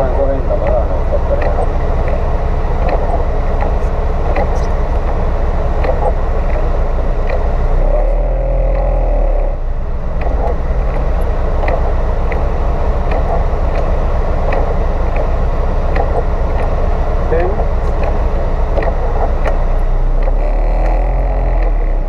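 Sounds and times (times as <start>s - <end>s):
car engine idling: 0.0s - 22.0s
deep steady hum: 0.0s - 22.0s
faint ticks: 0.0s - 22.0s.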